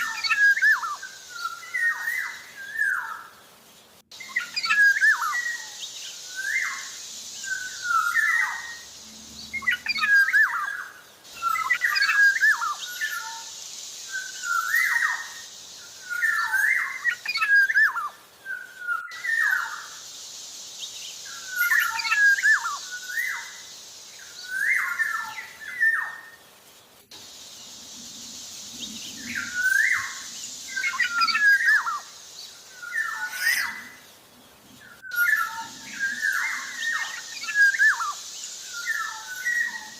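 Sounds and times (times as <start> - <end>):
bird whistling song: 0.0 - 3.3, 4.1 - 20.1, 20.8 - 26.4, 27.3 - 34.0, 34.8 - 39.9
steady high hiss: 0.0 - 39.9.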